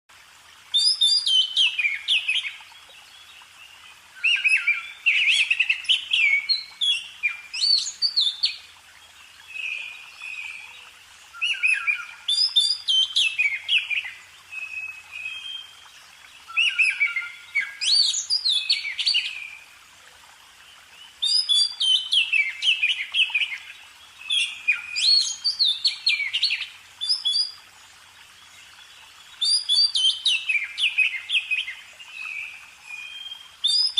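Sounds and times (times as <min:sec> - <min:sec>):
songbird singing: 0:00.7 - 0:33.9.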